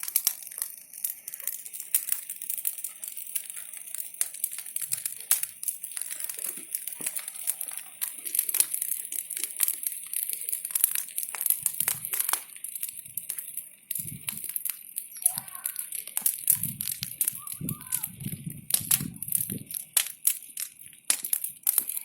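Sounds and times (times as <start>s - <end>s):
bonfire crackling and popping: 0.0s - 22.0s
fire hissing: 0.0s - 22.0s.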